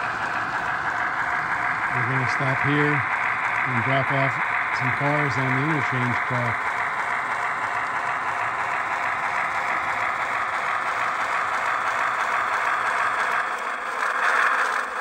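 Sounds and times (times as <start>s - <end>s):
model train wheels on rails: 0.0s - 15.0s.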